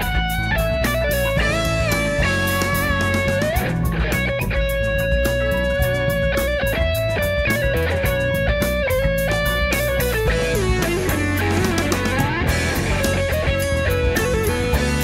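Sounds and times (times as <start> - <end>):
bass: 0.0 - 15.0
drums: 0.0 - 15.0
electric guitar lead line: 0.0 - 15.0.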